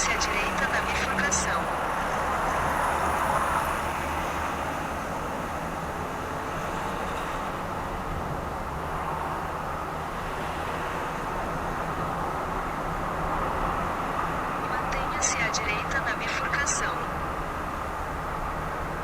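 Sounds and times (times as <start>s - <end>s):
car road noise: 0.0s - 19.0s.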